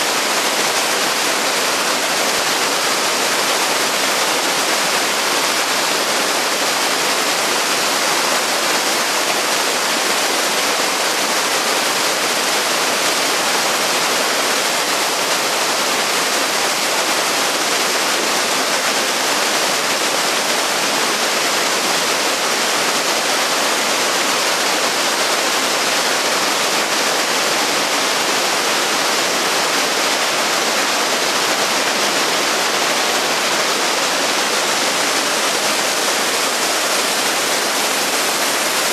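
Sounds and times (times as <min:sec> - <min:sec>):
river rushing over rapids: 0:00.0 - 0:38.9.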